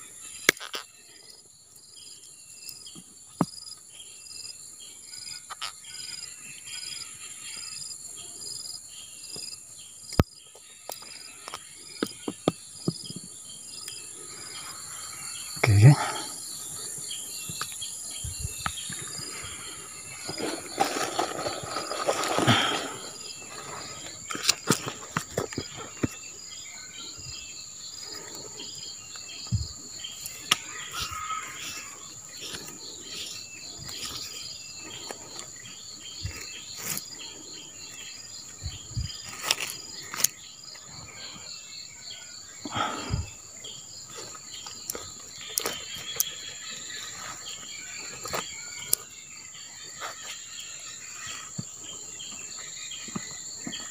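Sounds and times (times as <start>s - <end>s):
insect high whine: 10.5s - 53.8s.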